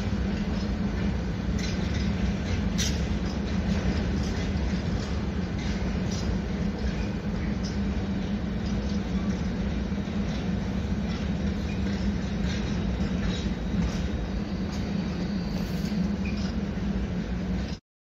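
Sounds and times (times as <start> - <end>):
freight train rumble: 0.0 - 17.8
wheels clicking over rail joints: 0.0 - 17.8.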